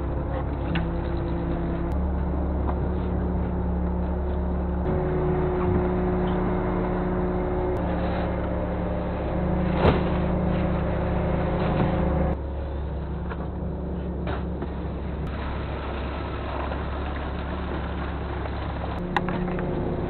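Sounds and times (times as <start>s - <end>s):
boat engine and machinery hum: 0.0s - 20.0s.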